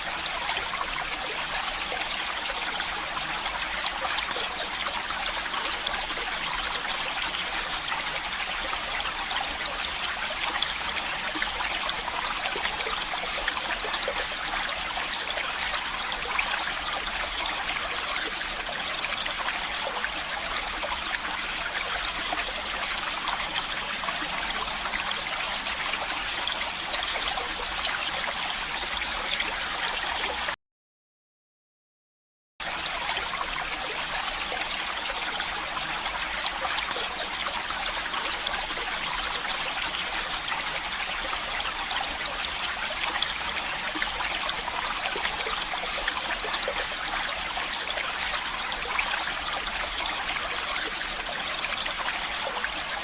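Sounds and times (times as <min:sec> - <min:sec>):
running water trickling and splashing: 0:00.0 - 0:30.6, 0:32.6 - 0:53.0.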